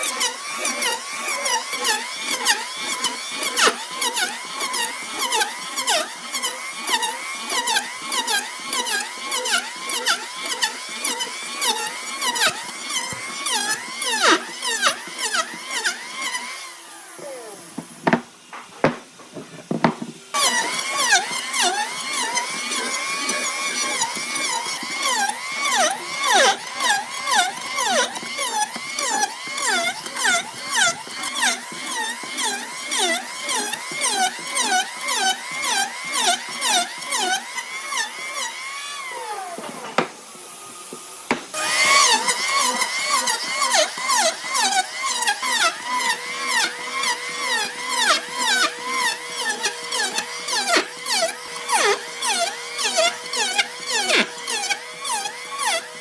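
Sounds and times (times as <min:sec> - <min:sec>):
power tool cutting wood: 0:00.0 - 0:56.0.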